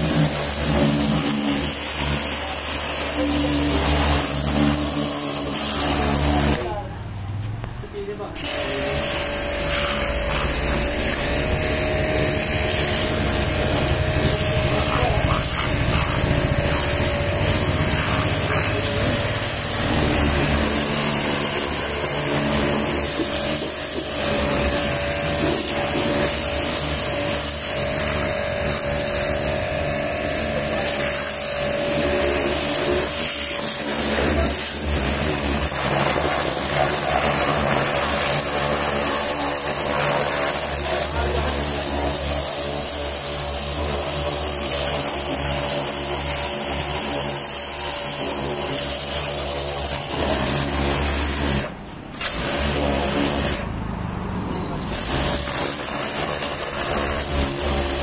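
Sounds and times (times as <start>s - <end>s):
high-pressure water jet spraying: 0.0s - 6.8s, 8.4s - 54.0s, 54.7s - 58.0s
pressure washer motor whining: 0.0s - 58.0s.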